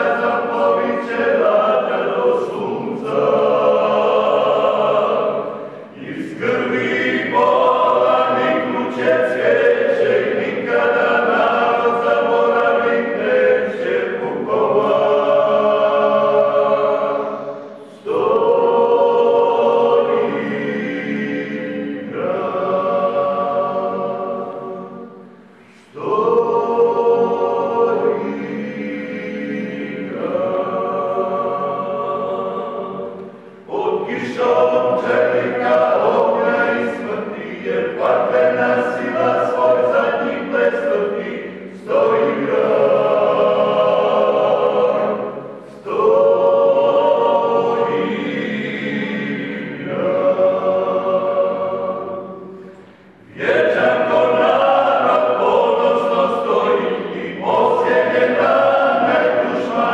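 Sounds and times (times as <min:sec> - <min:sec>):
men's choir singing a cappella: 0:00.0 - 0:59.9.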